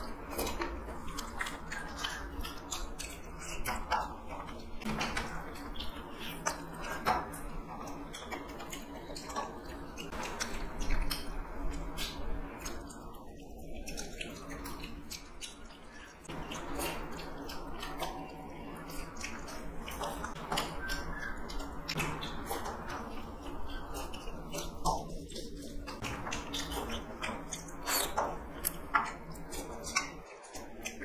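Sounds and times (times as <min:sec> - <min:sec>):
chewing and crunching: 0:00.0 - 0:31.0
low steady hum: 0:00.0 - 0:31.0.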